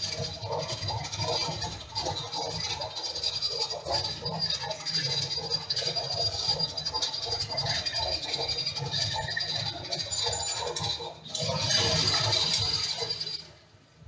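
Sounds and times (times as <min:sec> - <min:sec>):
metal lathe whine and rattle: 0:00.0 - 0:14.0.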